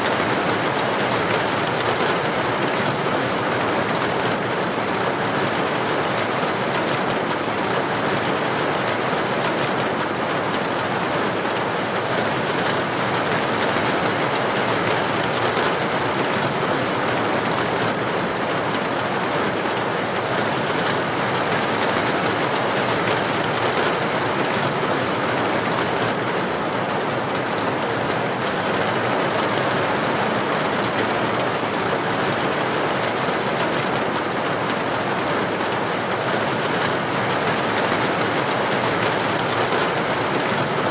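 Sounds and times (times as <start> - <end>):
heavy rain on a street: 0.0 - 40.9.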